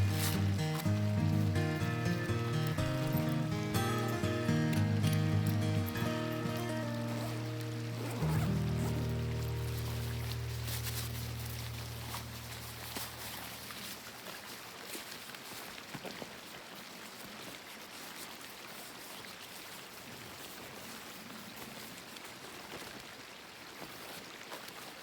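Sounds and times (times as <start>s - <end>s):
small stream running: 0.0s - 25.0s.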